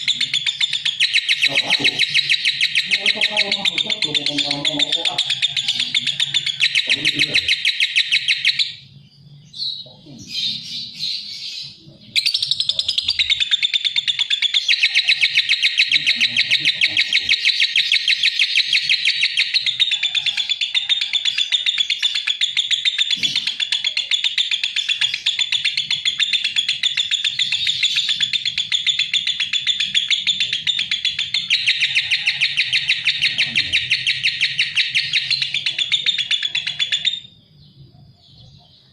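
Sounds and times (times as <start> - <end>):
lovebird chattering trill: 0.0 - 9.0, 9.6 - 38.9.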